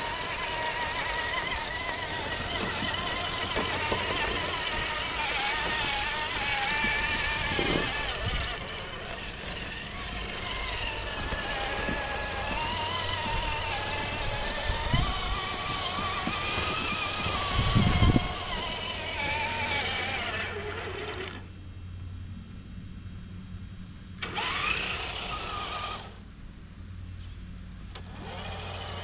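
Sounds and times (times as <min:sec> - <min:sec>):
electric motor whining: 0:00.0 - 0:21.5, 0:24.2 - 0:26.2, 0:27.9 - 0:29.0.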